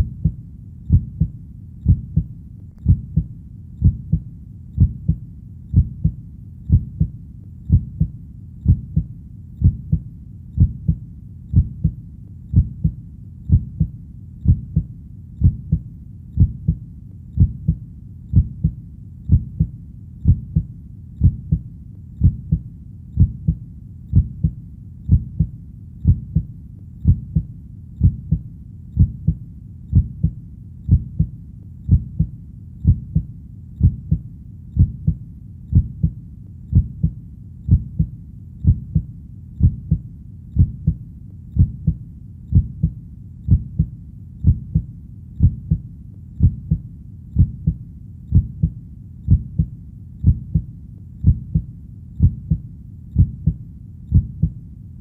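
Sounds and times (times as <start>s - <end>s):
heartbeat thumps: 0.0s - 54.6s
low background rumble: 0.0s - 55.0s.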